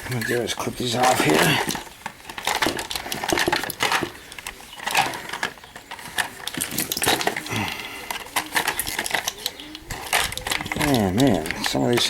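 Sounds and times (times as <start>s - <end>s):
small metallic clatters: 0.0s - 12.0s.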